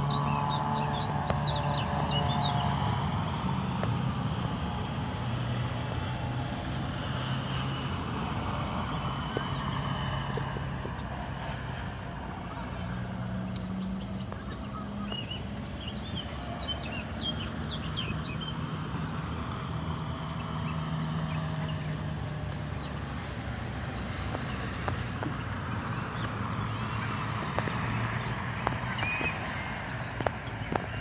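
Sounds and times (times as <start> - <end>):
small birds chirping: 0.0 - 5.0, 7.2 - 11.6, 12.5 - 31.0.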